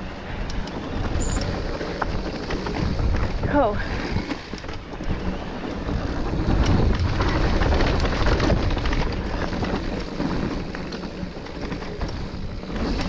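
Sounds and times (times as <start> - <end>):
bike clicks and rattles: 0.0 - 13.0
tyre noise on dirt trail: 0.0 - 13.0.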